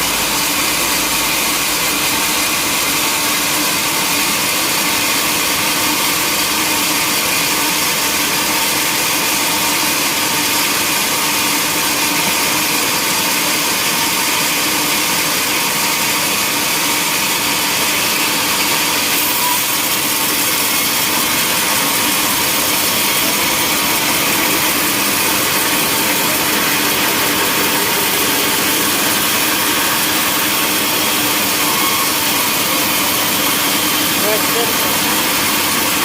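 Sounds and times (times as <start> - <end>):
sawmill saw cutting log: 0.0 - 36.0.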